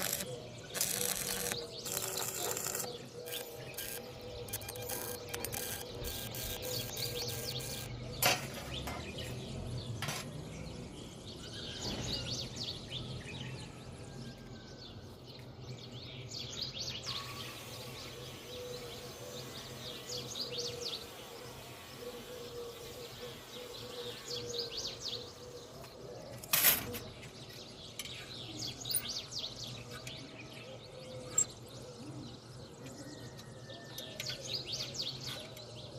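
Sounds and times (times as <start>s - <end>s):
birds chirping: 0.0s - 13.8s, 14.6s - 35.9s.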